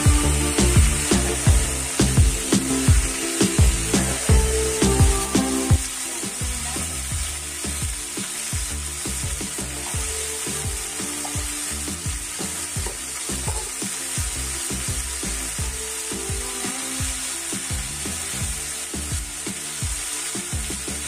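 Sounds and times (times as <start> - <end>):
background music with beat: 0.0 - 21.0
vegetables sizzling in hot oil: 0.0 - 21.0.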